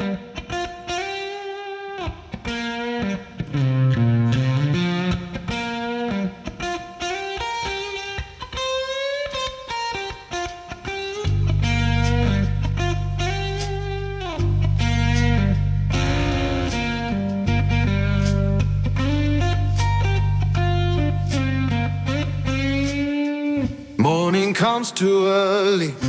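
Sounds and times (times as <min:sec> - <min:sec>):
guitar melody with bent notes: 0:00.0 - 0:24.0.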